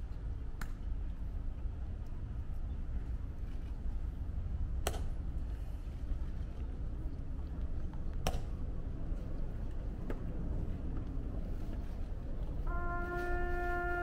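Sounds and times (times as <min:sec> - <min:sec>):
hushed outdoor crowd: 0:00.0 - 0:14.0
steady low rumble: 0:00.0 - 0:14.0.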